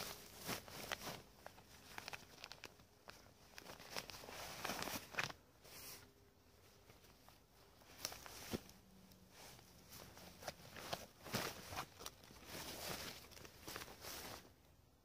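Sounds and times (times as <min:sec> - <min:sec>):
faint rustling and crackling: 0:00.0 - 0:14.8.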